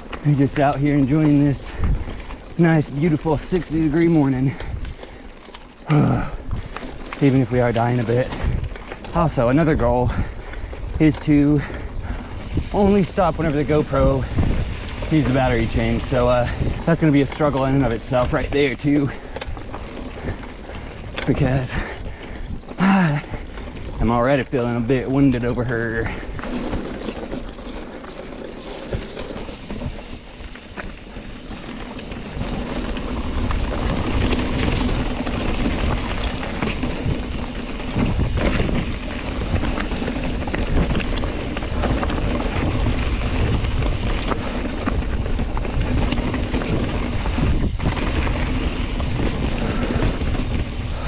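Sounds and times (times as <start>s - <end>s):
bike tyre and drivetrain noise: 0.0s - 51.0s
wind buffeting microphone: 0.0s - 51.0s.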